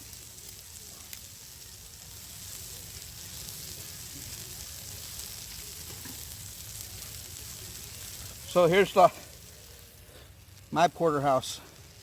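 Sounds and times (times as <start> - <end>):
steak sizzling over fire: 0.0 - 12.0.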